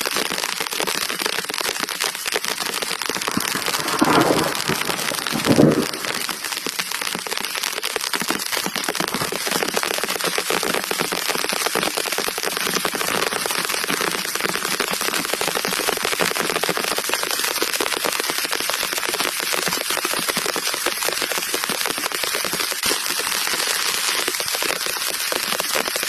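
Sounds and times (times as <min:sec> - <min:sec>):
heavy rain patter: 0:00.0 - 0:26.0.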